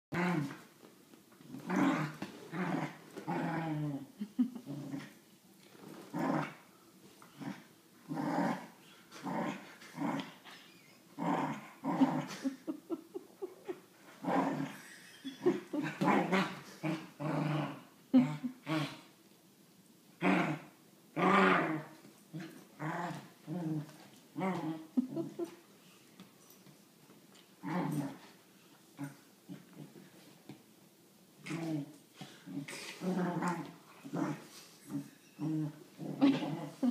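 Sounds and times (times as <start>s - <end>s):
dog play-growling: 0.2s - 19.2s, 20.2s - 25.6s, 27.3s - 30.6s, 31.4s - 36.9s.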